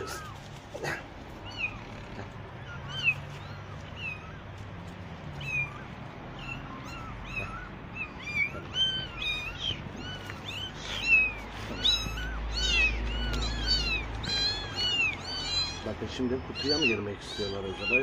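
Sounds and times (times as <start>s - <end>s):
kittens mewing: 0.0s - 18.0s.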